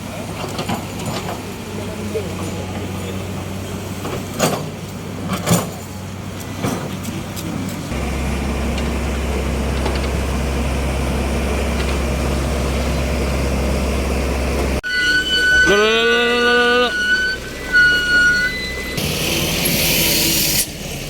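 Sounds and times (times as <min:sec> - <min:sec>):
heavy vehicle engine running: 0:00.0 - 0:14.8, 0:16.8 - 0:21.0.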